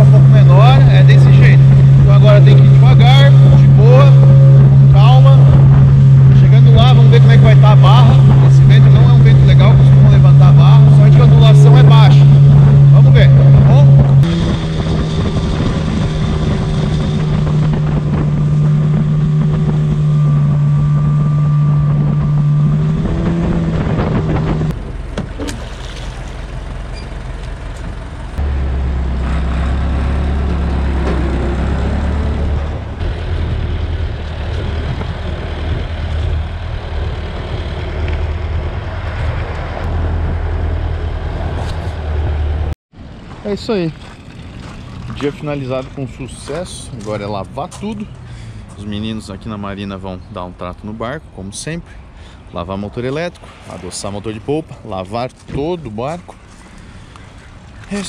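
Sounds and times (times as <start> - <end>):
outboard motor running: 0.0 - 40.3, 43.7 - 48.8, 53.4 - 58.0
deep steady engine hum: 0.0 - 58.0.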